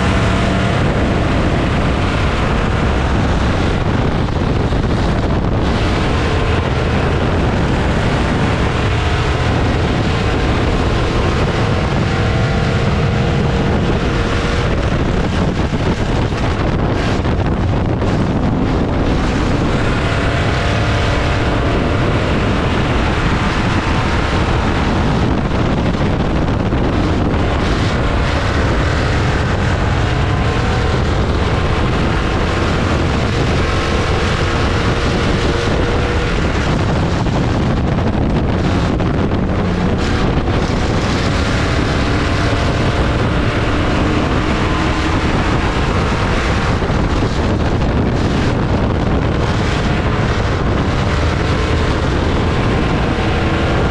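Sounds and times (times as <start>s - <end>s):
race car engine running hard: 0.0s - 53.9s
wind noise on microphone: 0.0s - 53.9s.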